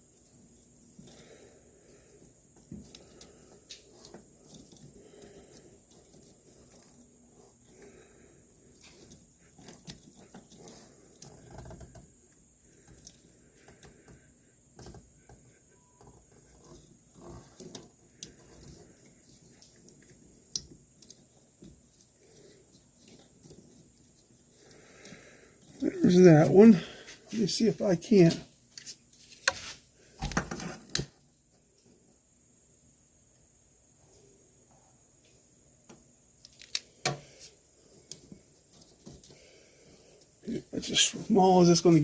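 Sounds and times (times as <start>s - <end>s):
hands handling wires: 0.2s - 31.2s, 36.4s - 39.6s.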